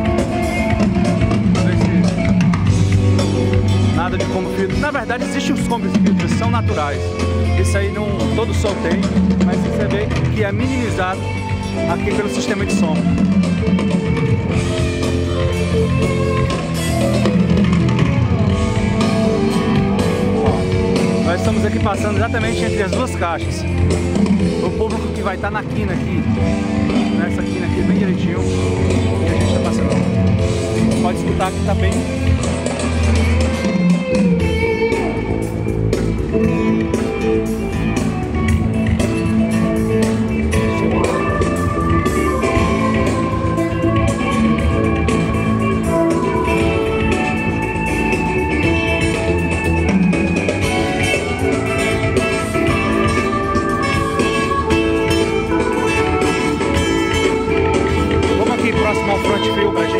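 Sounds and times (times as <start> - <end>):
loud band music through pa: 0.0 - 59.9.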